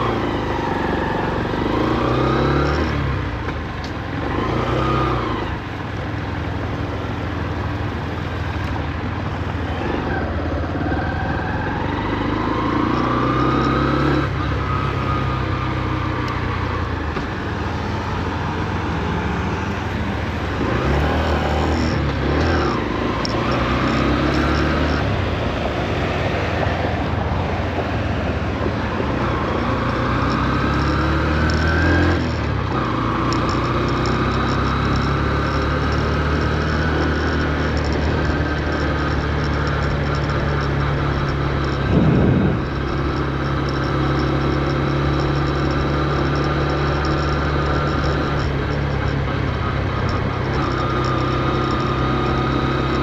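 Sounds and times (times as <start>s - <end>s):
motorcycle engine shifting gears: 0.0s - 53.0s.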